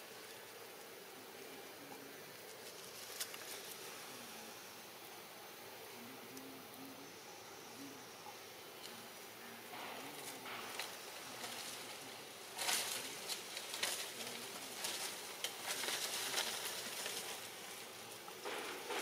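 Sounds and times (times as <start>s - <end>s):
leaves crackling and rustling: 0.0s - 19.0s.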